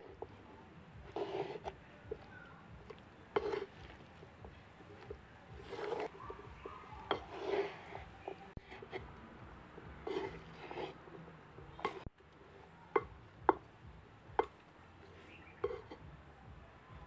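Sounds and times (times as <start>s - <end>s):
soft wet rustling of mixing: 0.0s - 17.0s
wooden spatula tapping clay pot: 1.0s - 12.1s, 12.9s - 16.1s.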